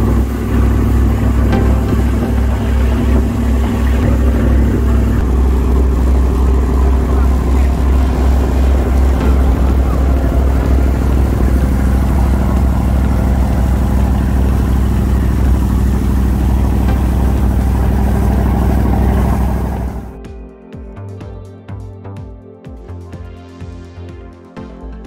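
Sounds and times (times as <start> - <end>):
boat engine droning: 0.0 - 20.2
wake rushing along hull: 0.0 - 20.2.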